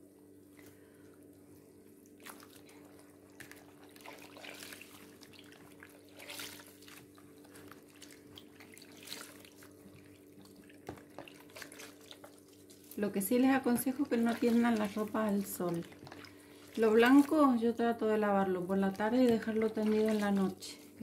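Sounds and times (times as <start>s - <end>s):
steady low hum: 0.0s - 21.0s
wet cloth swishing in water: 1.4s - 21.0s.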